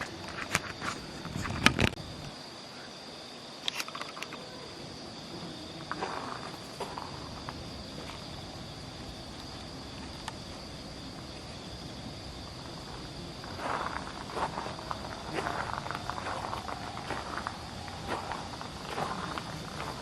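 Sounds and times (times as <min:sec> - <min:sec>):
night insects droning: 0:00.0 - 0:20.0.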